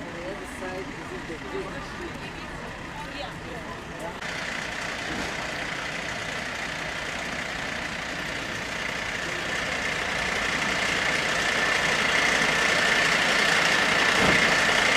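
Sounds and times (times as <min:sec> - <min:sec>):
fire engine idling: 0:00.0 - 0:14.9
high engine whine: 0:00.0 - 0:14.9.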